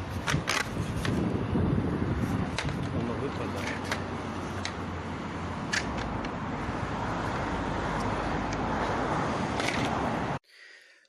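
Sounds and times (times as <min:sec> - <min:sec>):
road traffic noise: 0:00.0 - 0:10.5.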